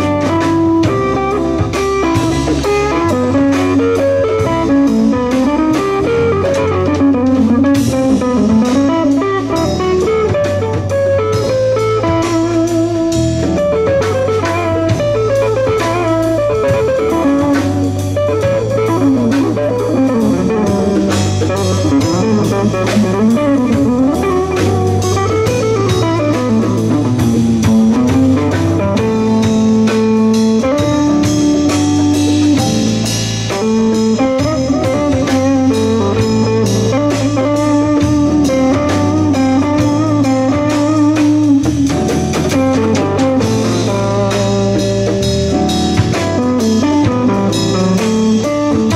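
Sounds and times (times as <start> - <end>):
bass line: 0.0 - 48.9
drum kit: 0.0 - 48.9
jazz guitar melody: 0.0 - 48.9.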